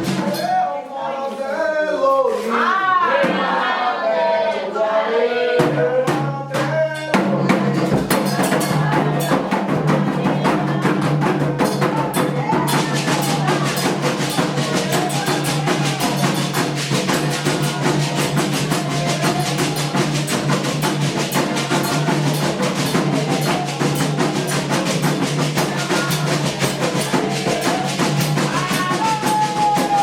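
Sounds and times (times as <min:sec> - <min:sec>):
fast percussion ensemble: 0:00.0 - 0:00.6, 0:05.6 - 0:30.0
person singing: 0:04.8 - 0:30.0.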